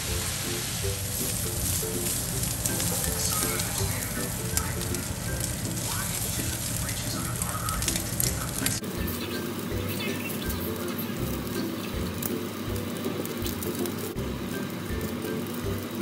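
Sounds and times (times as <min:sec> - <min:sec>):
background music: 0:00.0 - 0:16.0
beef sizzling in frying pan: 0:00.0 - 0:16.0.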